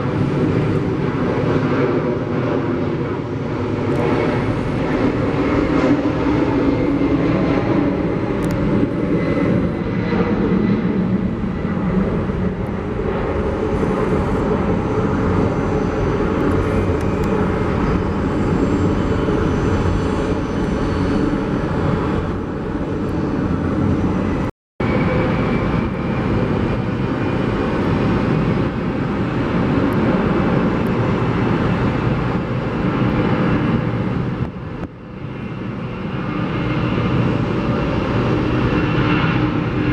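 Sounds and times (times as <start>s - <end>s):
airliner engine rush: 0.0s - 39.9s.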